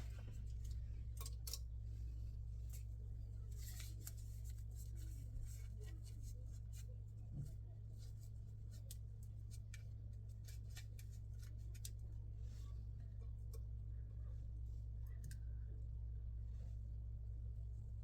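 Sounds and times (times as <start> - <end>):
light clicks of small things: 0.0 - 1.9, 2.6 - 15.7
steady low hum: 0.0 - 18.0.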